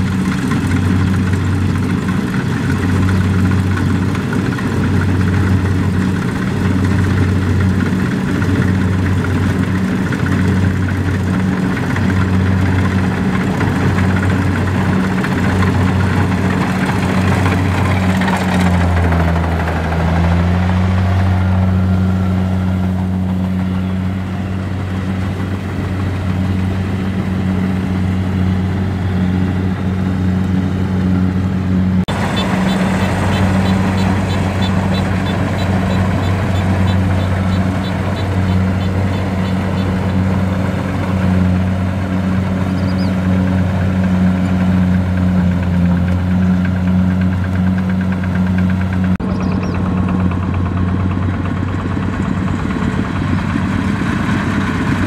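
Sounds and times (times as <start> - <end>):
busy mechanical noise: 0.0 - 55.0
combine harvester diesel engine hum: 0.0 - 55.0.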